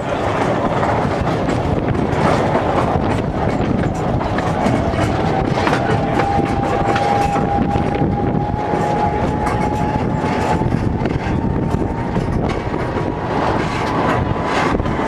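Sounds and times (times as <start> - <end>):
train wheels rumbling and clattering: 0.0 - 15.0.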